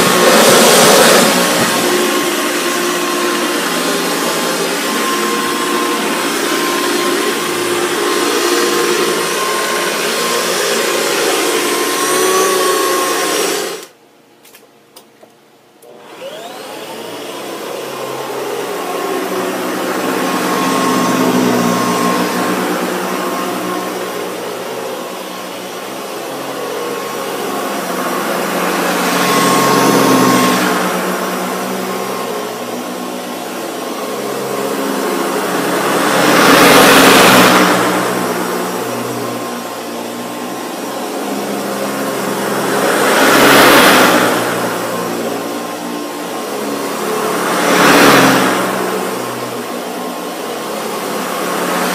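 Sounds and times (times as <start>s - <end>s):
vacuum cleaner motor whine: 0.0s - 14.0s, 15.8s - 51.9s.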